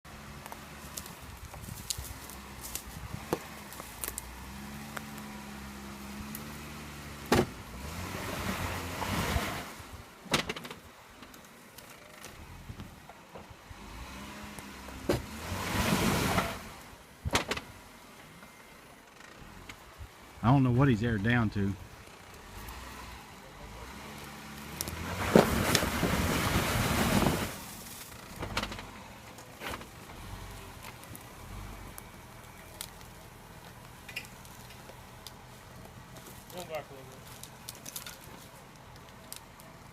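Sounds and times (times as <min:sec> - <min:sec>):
car engine running slowly: 0:00.0 - 0:39.9.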